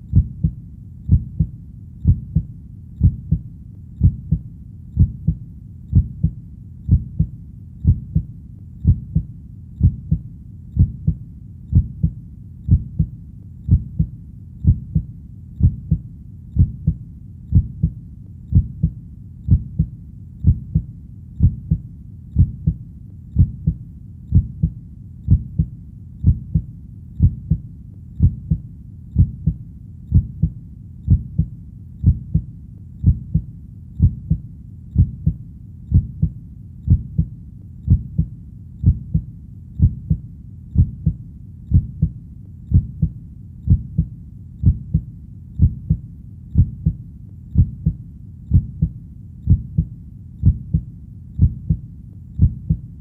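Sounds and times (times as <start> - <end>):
faint low hum: 0.0 - 53.0
heartbeat double thump: 0.1 - 3.4, 4.0 - 4.4, 5.0 - 10.2, 10.8 - 13.1, 13.7 - 16.0, 16.6 - 21.8, 22.4 - 22.8, 23.4 - 27.6, 28.2 - 28.6, 29.2 - 34.4, 35.0 - 37.3, 37.9 - 40.2, 40.8 - 43.1, 43.7 - 46.0, 46.6 - 47.0, 47.6 - 51.8, 52.4 - 52.8.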